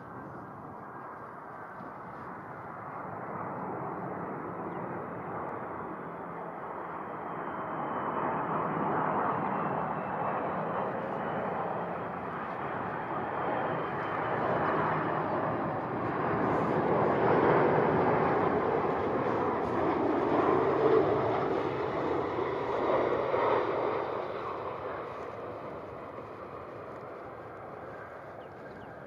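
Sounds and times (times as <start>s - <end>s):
faint high engine whine: 0.0s - 29.0s
jet engine rumble: 0.0s - 29.0s.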